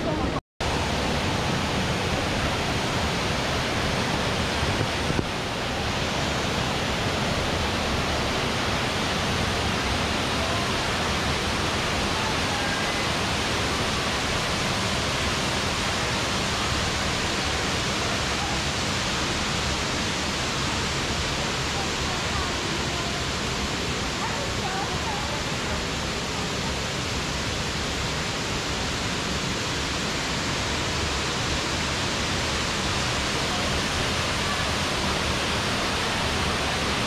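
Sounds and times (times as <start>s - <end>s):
water rushing over rocks: 0.0s - 37.0s.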